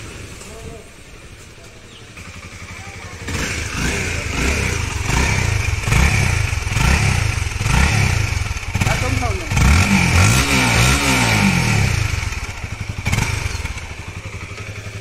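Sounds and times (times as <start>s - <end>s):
motorcycle engine revving: 1.9s - 15.0s.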